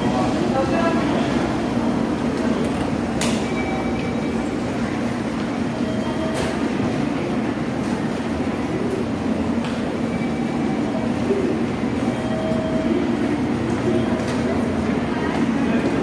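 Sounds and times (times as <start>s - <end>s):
low rumble of station concourse: 0.0s - 16.0s.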